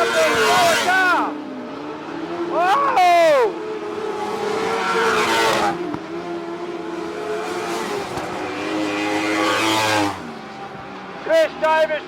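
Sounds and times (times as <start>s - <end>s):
sprint car engines racing: 0.0s - 12.0s.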